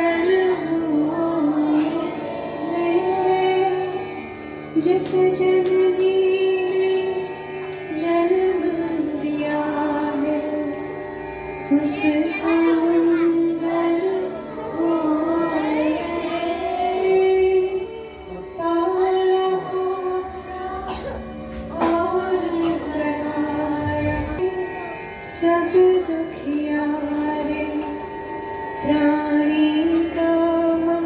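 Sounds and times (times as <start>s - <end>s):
person singing: 0.0s - 4.2s, 4.8s - 10.8s, 11.7s - 28.2s, 28.8s - 31.0s
devotional melody over drone: 0.0s - 31.0s.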